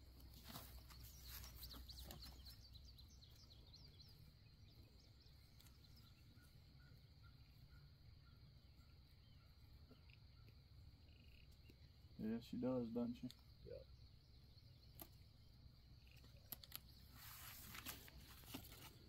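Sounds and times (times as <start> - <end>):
faint bird chirps: 0.4 - 19.0.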